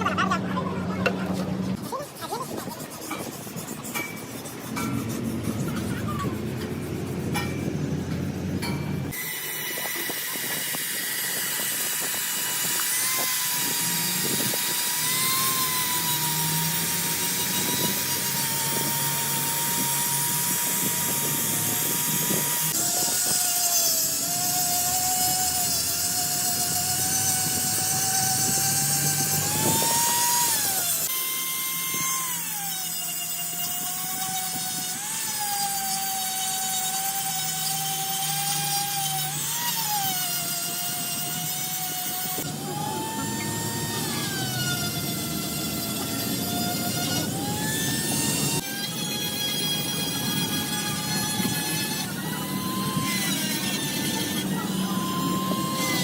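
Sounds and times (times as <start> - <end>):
power tool whining: 3.1 - 56.0.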